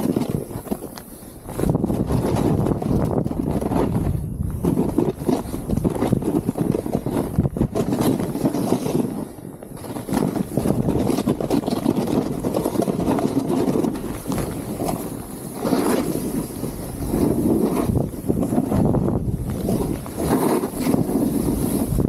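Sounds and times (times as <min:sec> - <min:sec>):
snowboard scraping over snow: 0:00.0 - 0:22.0
wind on microphone: 0:00.0 - 0:22.0.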